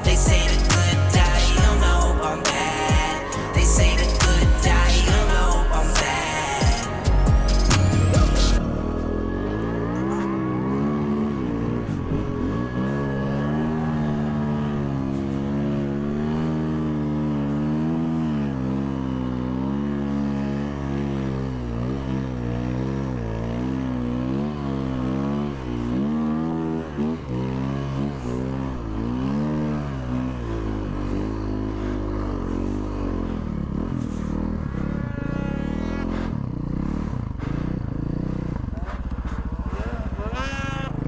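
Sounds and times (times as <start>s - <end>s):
snowmobile engine revving: 0.0s - 41.0s.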